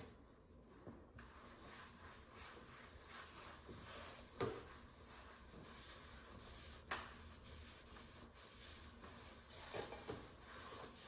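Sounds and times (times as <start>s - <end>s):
cloth wiping wooden tabletop: 1.2s - 11.0s.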